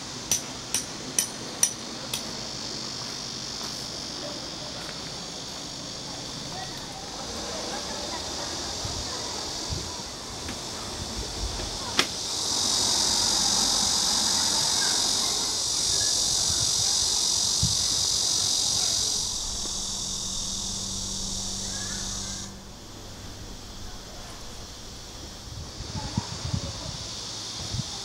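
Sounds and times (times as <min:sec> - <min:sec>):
cicadas droning: 0:00.0 - 0:28.0.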